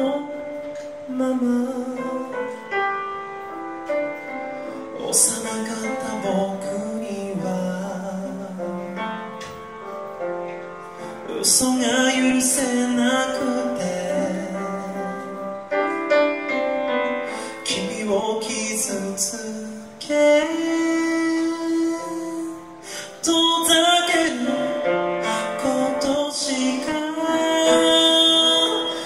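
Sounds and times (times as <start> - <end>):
man singing into a microphone: 0.0 - 2.8, 4.7 - 9.6, 10.6 - 16.0, 17.2 - 29.0
keyboard: 0.0 - 29.0.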